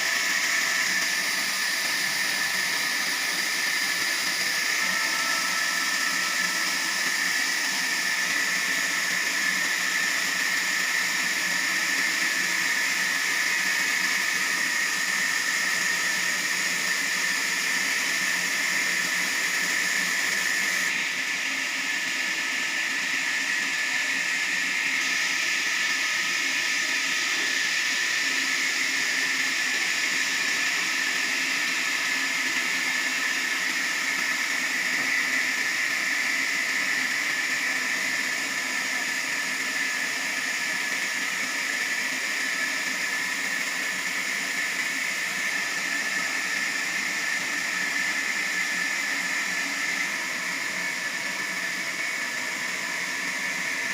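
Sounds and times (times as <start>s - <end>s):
sawmill saw running: 0.0s - 53.9s.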